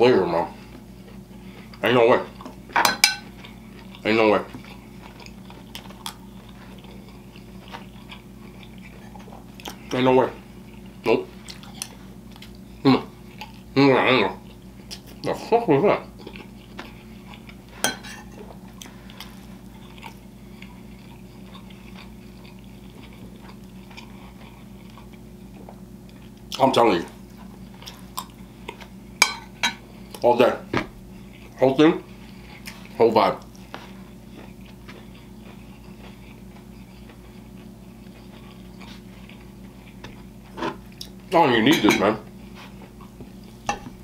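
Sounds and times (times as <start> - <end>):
faint steady hum: 0.0 - 44.0
close-miked chewing: 0.6 - 29.2, 31.0 - 41.6.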